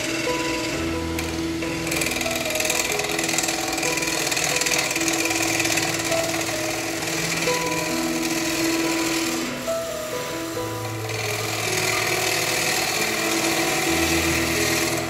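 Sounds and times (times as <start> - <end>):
background music with held notes: 0.0 - 15.0
gouge cutting wood on lathe: 0.0 - 15.0.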